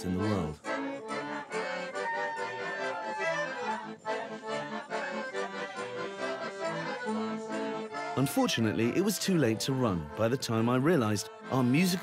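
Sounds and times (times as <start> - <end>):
live folk dance music: 0.0 - 12.0.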